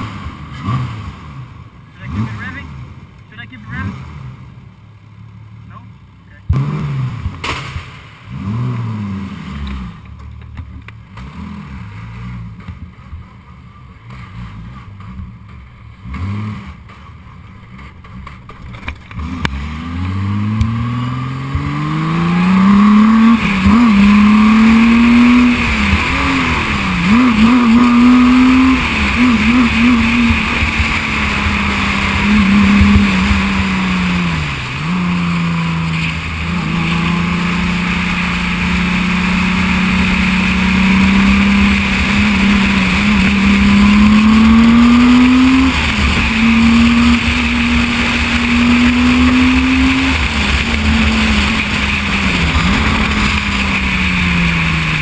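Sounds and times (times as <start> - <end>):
race car engine revving: 0.0 - 13.0, 14.0 - 55.0.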